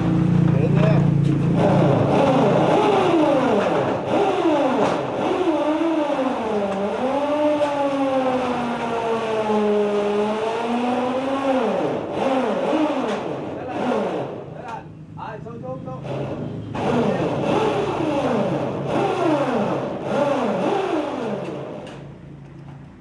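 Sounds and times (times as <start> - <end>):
motor whining at changing speed: 0.0 - 14.6, 16.1 - 22.1.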